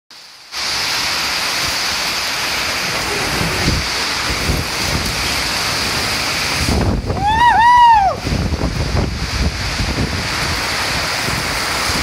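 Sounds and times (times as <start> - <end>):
heavy rain pouring: 0.1 - 12.0
wind buffeting microphone: 1.7 - 12.0.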